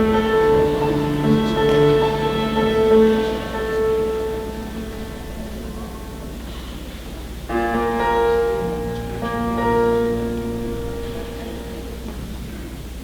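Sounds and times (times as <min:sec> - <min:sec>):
orchestra held chords: 0:00.0 - 0:12.9.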